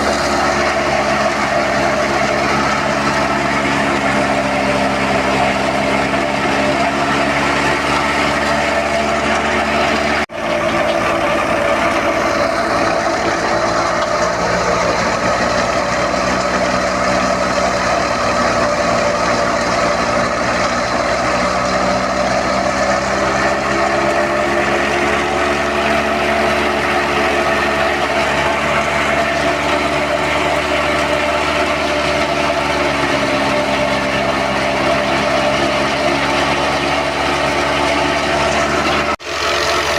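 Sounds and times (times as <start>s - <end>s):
thresher and tractor engine running: 0.0s - 39.9s.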